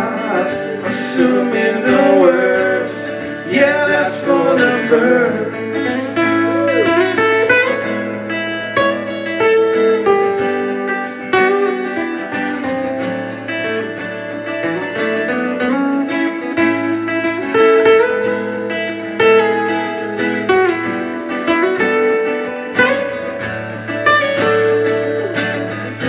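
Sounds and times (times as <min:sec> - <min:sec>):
acoustic guitars playing: 0:00.0 - 0:26.0.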